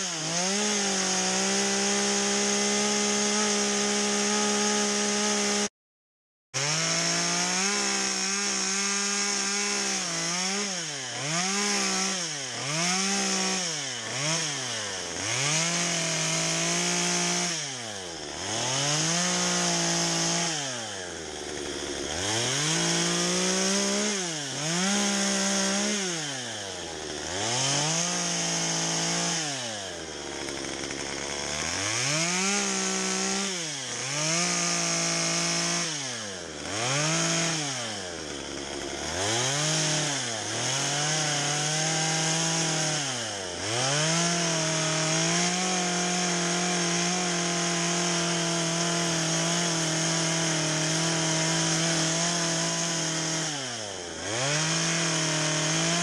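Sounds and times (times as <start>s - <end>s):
chainsaw revving and idling: 0.0s - 5.7s, 6.6s - 56.0s.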